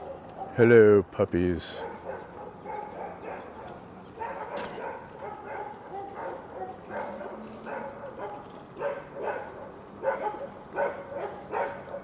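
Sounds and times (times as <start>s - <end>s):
dogs barking: 0.0s - 0.6s, 1.8s - 12.0s.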